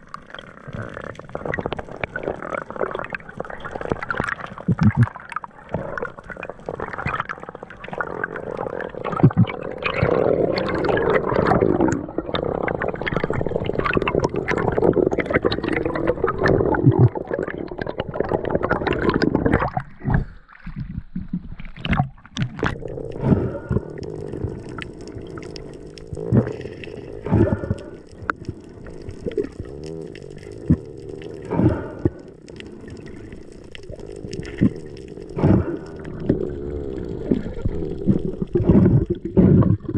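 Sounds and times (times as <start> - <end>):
underwater water rushing: 0.0 - 39.9.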